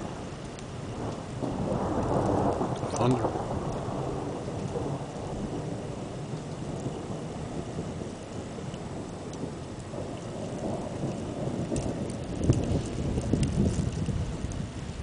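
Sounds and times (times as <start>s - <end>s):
rolling thunder: 0.0s - 15.0s.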